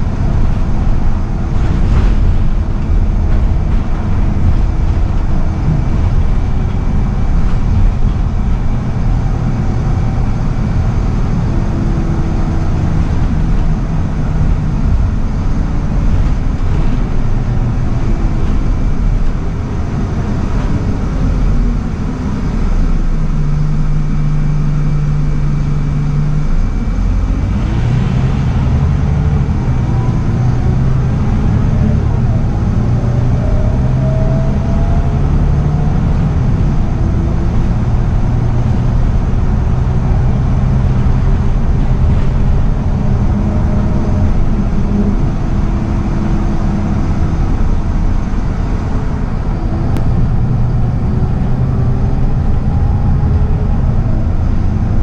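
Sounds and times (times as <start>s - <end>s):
diesel bus engine from inside: 0.0s - 55.0s.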